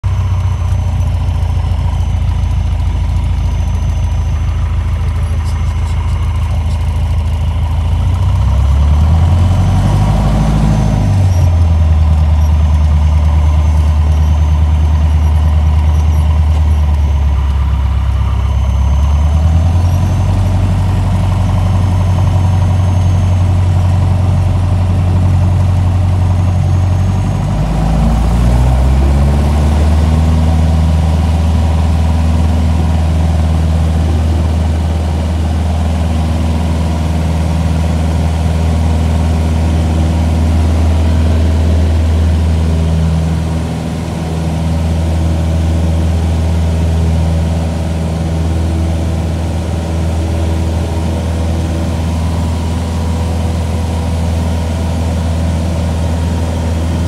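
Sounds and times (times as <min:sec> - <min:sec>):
airplane piston engine and propeller: 0:00.0 - 0:57.0.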